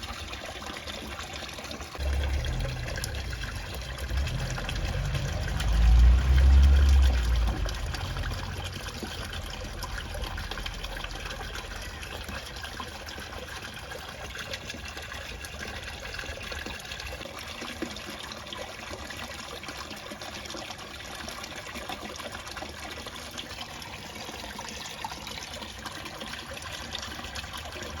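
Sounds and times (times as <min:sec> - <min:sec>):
water trickling into pond: 0:00.0 - 0:28.0.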